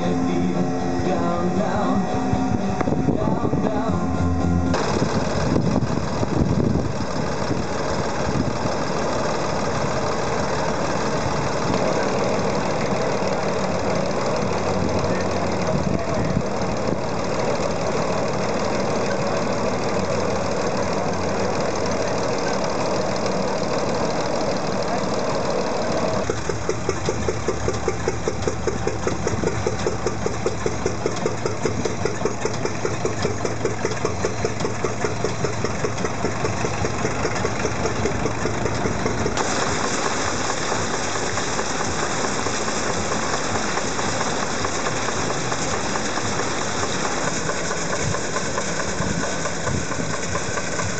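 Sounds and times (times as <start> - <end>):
engine running slowly with even beats: 0.0 - 50.9
old engine running: 0.0 - 50.9.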